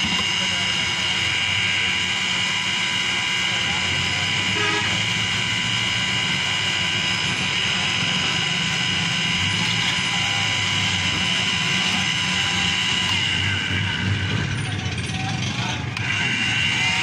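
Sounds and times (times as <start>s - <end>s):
electric blender whining: 0.0s - 17.0s.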